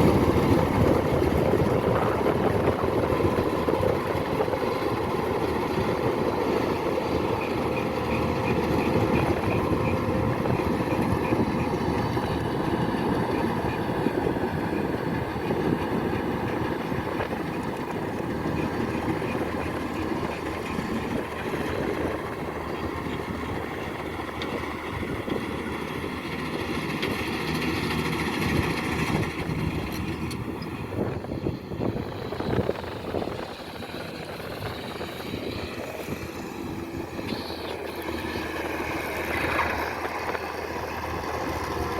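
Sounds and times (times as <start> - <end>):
combine harvester diesel engine running: 0.0 - 41.9.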